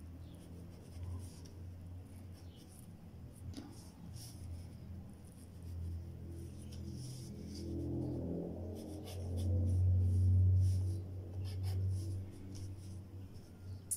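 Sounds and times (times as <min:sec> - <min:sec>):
low steady hum: 0:00.0 - 0:13.9
pencil scratching on paper: 0:02.1 - 0:13.6.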